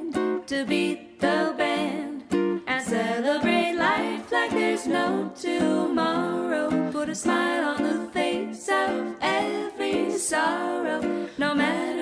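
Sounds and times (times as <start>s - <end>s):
person singing: 0.0s - 12.0s
plucked string accompaniment: 0.0s - 12.0s.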